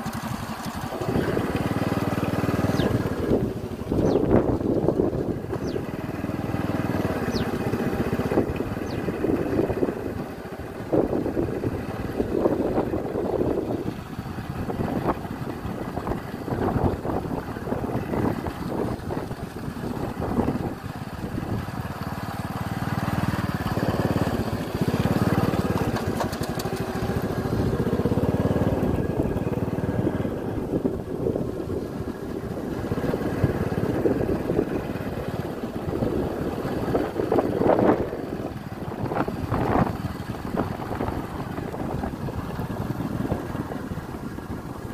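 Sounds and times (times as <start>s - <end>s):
motorcycle engine running: 0.0s - 44.9s
wind rushing on microphone: 0.0s - 44.9s.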